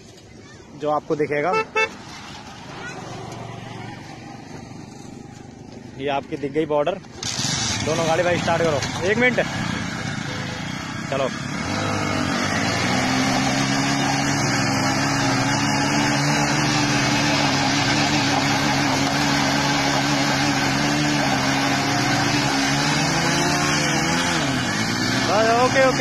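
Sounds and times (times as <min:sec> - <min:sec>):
motorcycle engines droning under load: 0:00.0 - 0:26.0.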